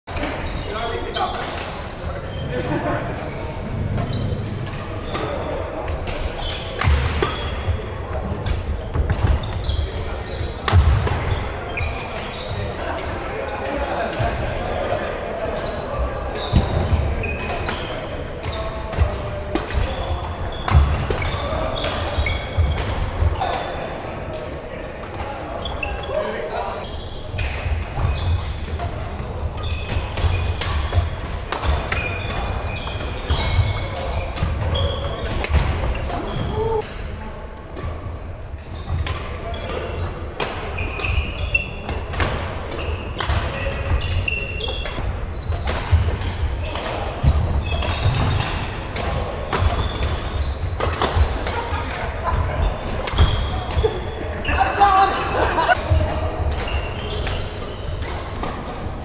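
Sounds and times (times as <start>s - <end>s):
shoes squeaking on court: 0.2s - 13.6s, 15.4s - 24.0s, 24.8s - 36.9s, 37.8s - 59.0s.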